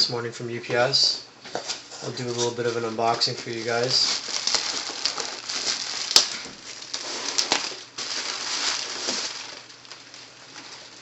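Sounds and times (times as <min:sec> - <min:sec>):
packaging rustling and crinkling: 0:01.5 - 0:11.0.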